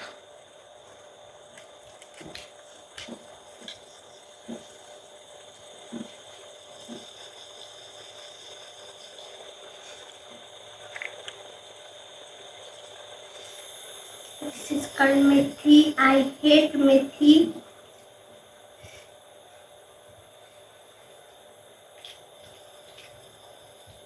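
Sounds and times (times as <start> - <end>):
faint background hum: 0.0 - 24.0.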